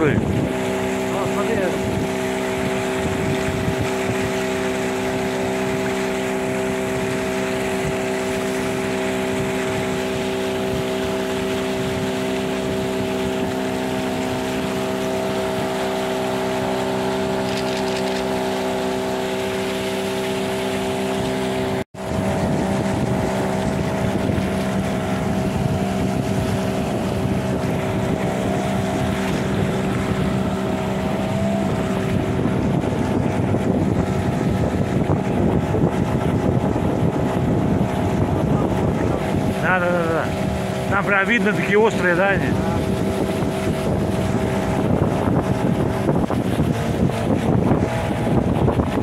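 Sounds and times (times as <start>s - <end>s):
outboard motor droning: 0.0s - 49.0s
water rushing: 0.0s - 49.0s
wind on microphone: 0.0s - 49.0s.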